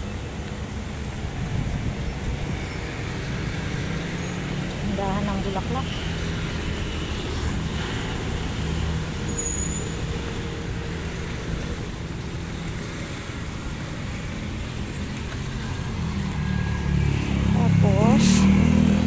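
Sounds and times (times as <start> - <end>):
cars passing: 0.0 - 19.0
traffic rumble: 0.0 - 19.0.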